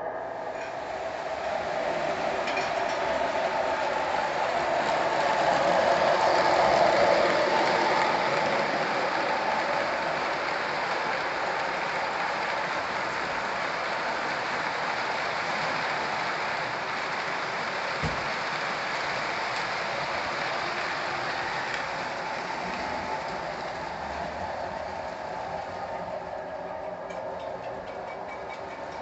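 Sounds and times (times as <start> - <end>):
model train wheels on rails: 0.0 - 29.0.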